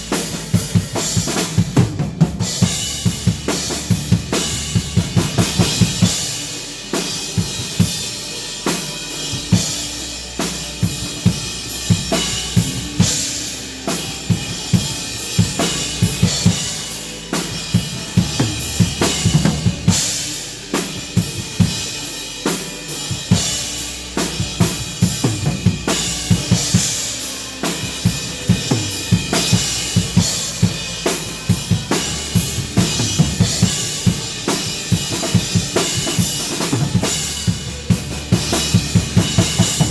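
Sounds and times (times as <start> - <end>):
drum kit groove: 0.0 - 39.9
worship music: 0.0 - 39.9.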